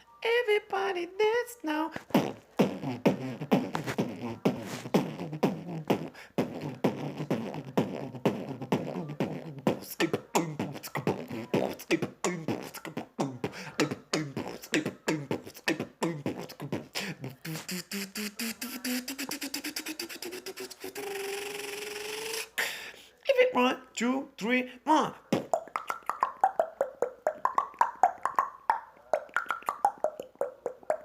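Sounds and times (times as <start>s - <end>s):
person beatboxing: 1.8s - 22.8s, 25.0s - 31.0s.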